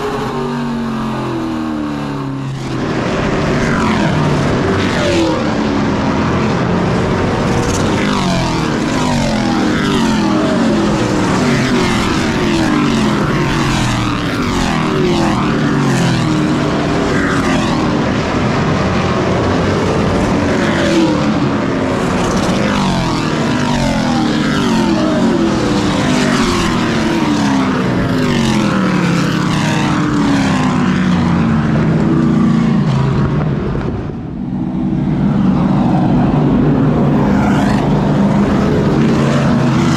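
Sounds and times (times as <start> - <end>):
race truck engine running hard: 0.0 - 39.9.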